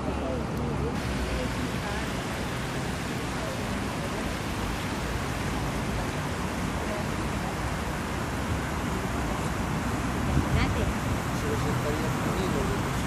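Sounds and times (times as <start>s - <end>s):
even hiss: 0.9s - 13.0s.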